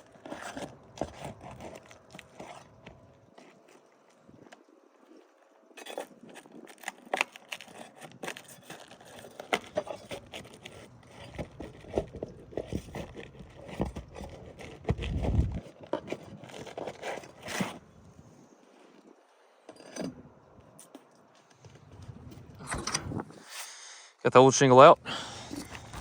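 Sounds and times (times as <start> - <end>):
shingles scraped and pried loose: 0.0 - 3.8, 5.8 - 18.0, 19.7 - 23.6, 25.2 - 26.0.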